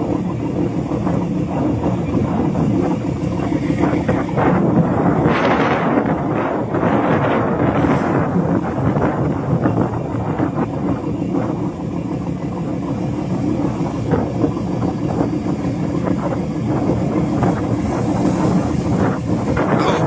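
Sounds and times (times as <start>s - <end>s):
boat engine droning: 0.0s - 20.0s
sea water rushing along hull: 0.0s - 20.0s
wind on microphone: 0.0s - 20.0s.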